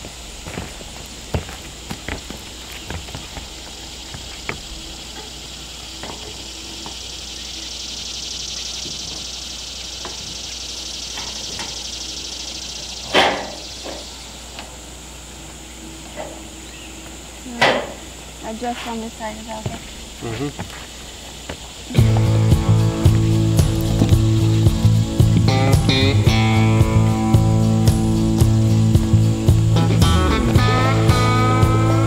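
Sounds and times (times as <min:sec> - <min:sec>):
insect chorus: 0:00.0 - 0:32.0.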